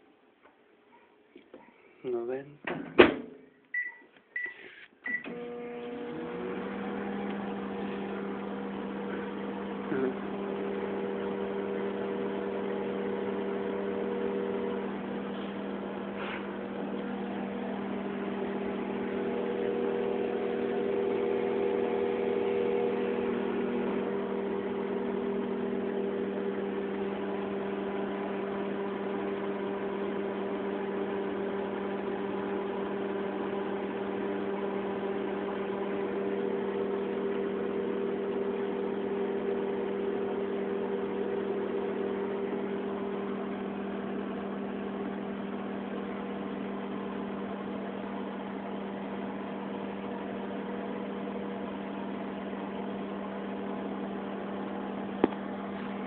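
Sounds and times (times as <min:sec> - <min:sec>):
microwave oven humming: 0:05.1 - 0:56.0.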